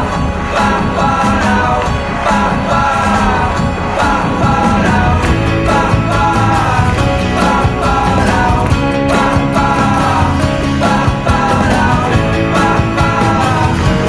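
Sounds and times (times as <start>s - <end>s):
indie rock song with vocals: 0.0s - 14.0s
steady drum beat: 0.0s - 14.0s.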